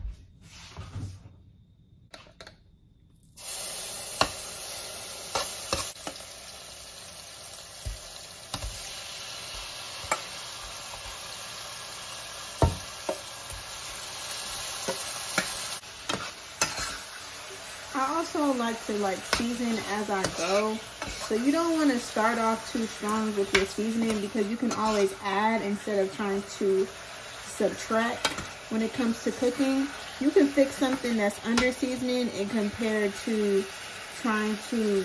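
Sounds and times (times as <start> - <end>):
meat sizzling in hot oil: 3.4 - 35.0.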